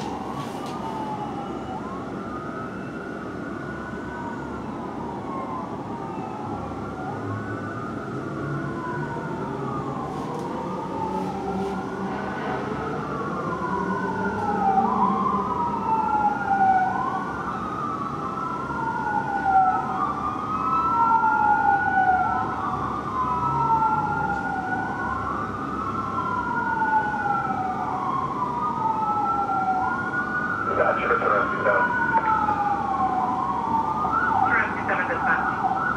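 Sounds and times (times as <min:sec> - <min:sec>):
fire engine siren wailing: 0:00.0 - 0:35.9.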